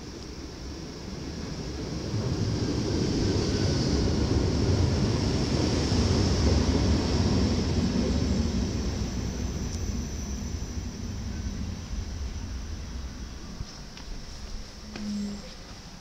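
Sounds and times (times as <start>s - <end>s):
train hiss: 0.0s - 16.0s
train wheels rumbling on rails: 0.0s - 16.0s.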